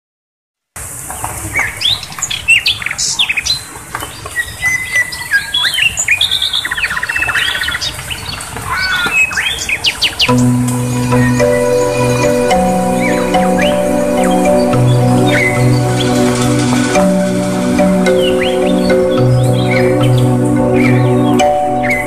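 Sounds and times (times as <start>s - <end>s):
songbirds chirping and trilling: 1.5s - 22.0s.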